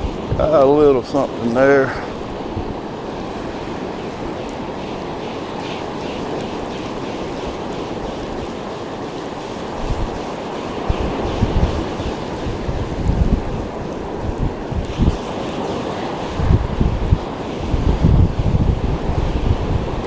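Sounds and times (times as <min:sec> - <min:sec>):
ocean surf washing on beach: 0:00.0 - 0:20.0
wind buffeting microphone: 0:00.0 - 0:20.0.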